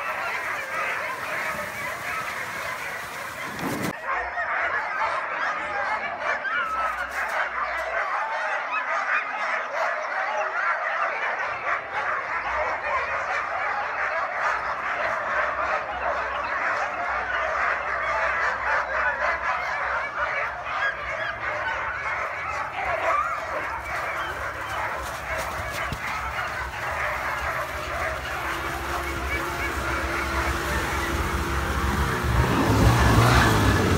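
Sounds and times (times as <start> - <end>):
sled dogs yelping and barking: 0.0 - 33.9.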